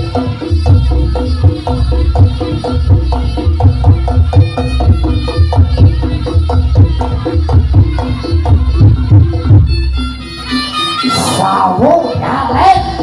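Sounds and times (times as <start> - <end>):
gamelan drum strokes: 0.0 - 13.0.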